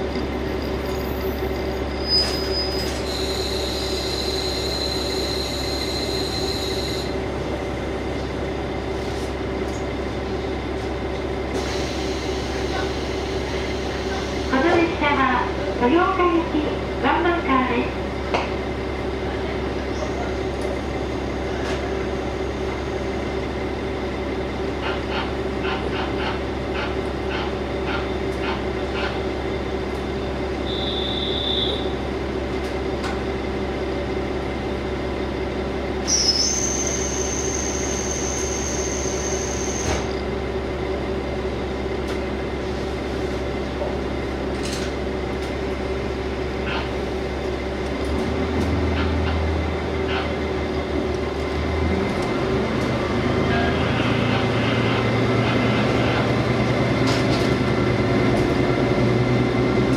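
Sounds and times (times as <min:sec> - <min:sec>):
diesel railcar engine drone: 0:00.0 - 0:59.9.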